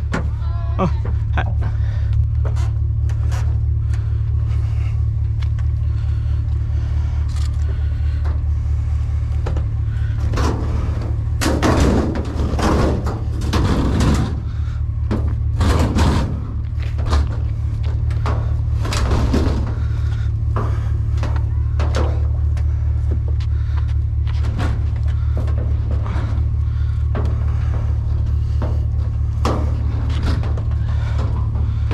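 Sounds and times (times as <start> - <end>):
vehicle engine and road noise: 0.0 - 31.9.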